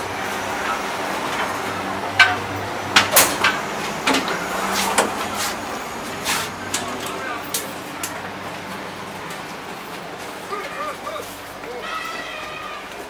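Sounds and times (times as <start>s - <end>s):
low hum inside train coach: 0.0s - 13.0s.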